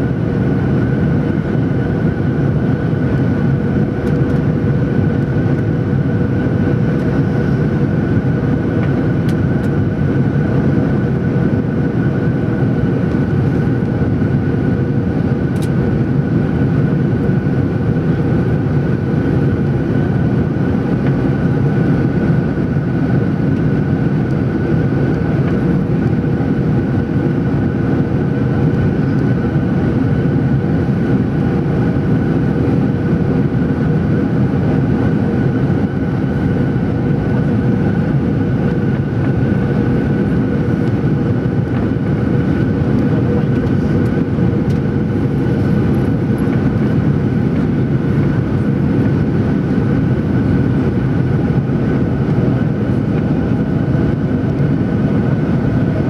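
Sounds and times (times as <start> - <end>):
airplane cabin engine rush: 0.0 - 56.0
steady engine whine: 0.0 - 56.0.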